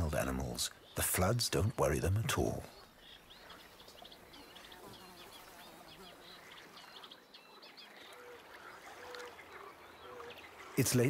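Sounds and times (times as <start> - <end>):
high chirping birdsong: 0.0 - 11.0
low bird calls: 0.0 - 11.0.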